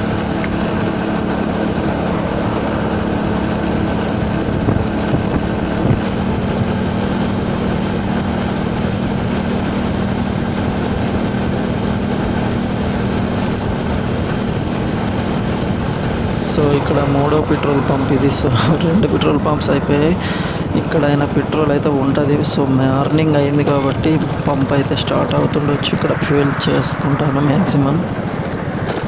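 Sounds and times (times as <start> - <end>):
motorcycle engine running: 0.0 - 27.1
wind and road noise: 0.0 - 29.0.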